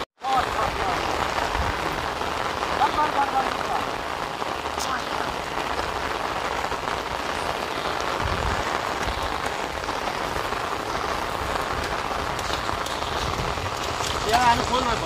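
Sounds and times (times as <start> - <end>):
heavy rain on water: 0.0 - 15.0.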